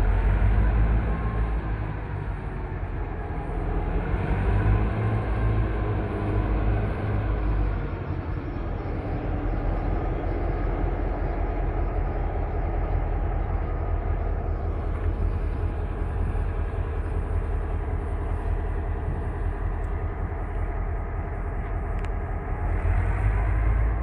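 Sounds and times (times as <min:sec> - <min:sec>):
diesel locomotive engine drone: 0:00.0 - 0:24.0
steady hum: 0:00.0 - 0:24.0.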